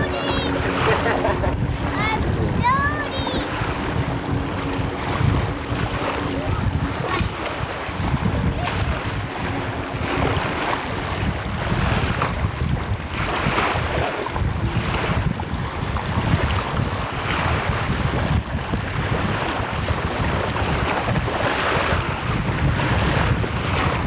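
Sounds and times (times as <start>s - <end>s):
choppy lake water: 0.0s - 24.0s
wind buffeting microphone: 0.0s - 24.0s.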